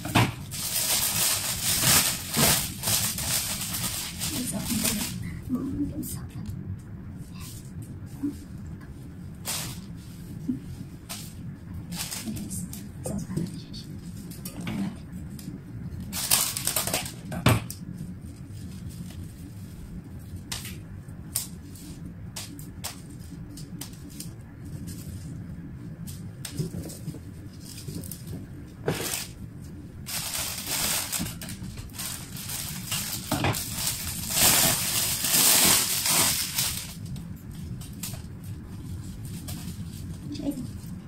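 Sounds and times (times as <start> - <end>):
crackly rustling of leaves: 0.0 - 41.0.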